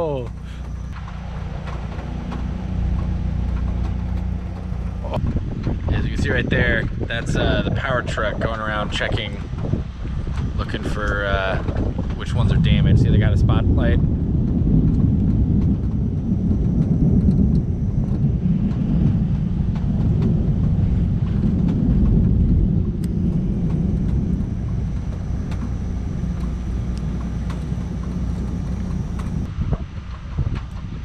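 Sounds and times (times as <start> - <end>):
truck engine rumbling: 0.0 - 31.0.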